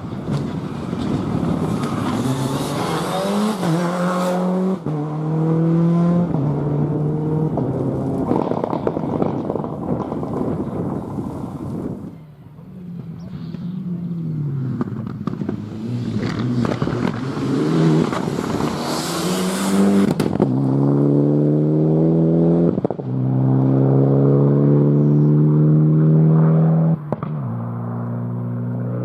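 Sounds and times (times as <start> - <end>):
rally car engine accelerating: 0.2 - 10.4, 13.0 - 29.0.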